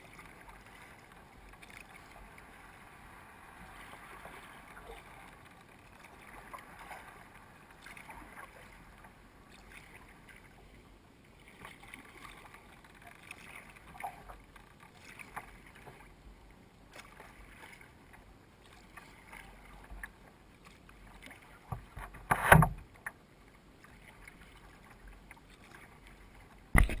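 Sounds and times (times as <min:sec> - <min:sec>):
water lapping against kayak hull: 0:00.0 - 0:27.0.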